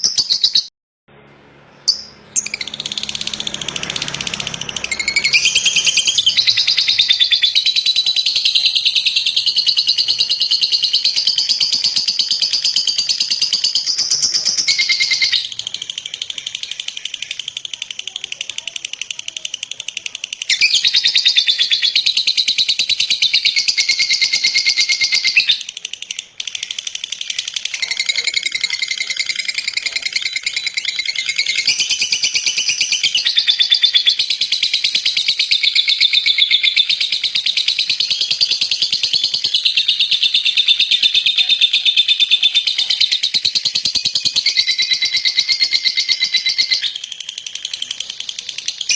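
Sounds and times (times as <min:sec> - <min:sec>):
lovebird trilling chatter: 0:01.9 - 0:48.9.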